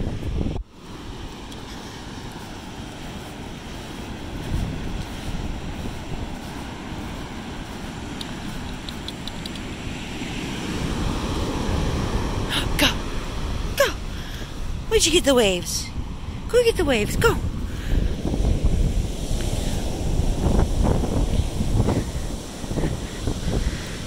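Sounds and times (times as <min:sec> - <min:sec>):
surf washing on shore: 0:00.0 - 0:24.0
wind rumble on microphone: 0:00.0 - 0:24.0.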